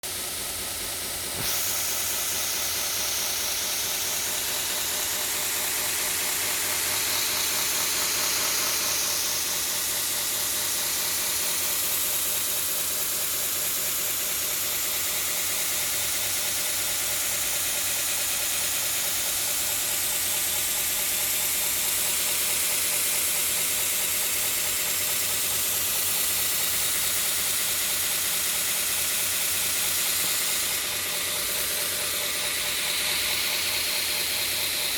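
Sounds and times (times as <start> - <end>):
belt grinder running: 0.0 - 34.9
hiss of grinder belt: 0.0 - 34.9.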